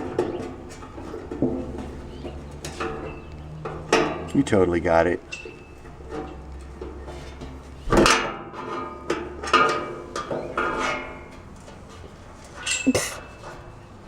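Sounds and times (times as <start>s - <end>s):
metal panels clanking and ringing: 0.0s - 11.4s.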